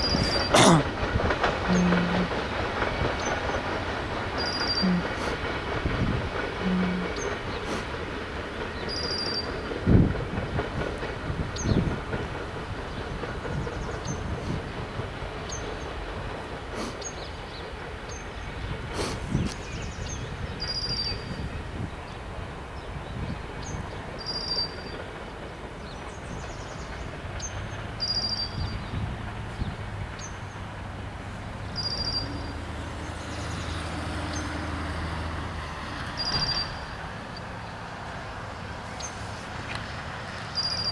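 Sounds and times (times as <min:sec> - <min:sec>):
freight train cars rumbling: 0:00.0 - 0:40.9.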